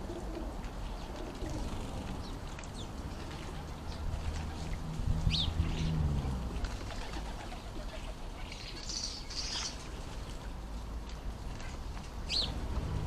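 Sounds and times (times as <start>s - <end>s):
small birds chirping: 0.0s - 6.0s, 6.6s - 10.4s, 11.7s - 12.6s.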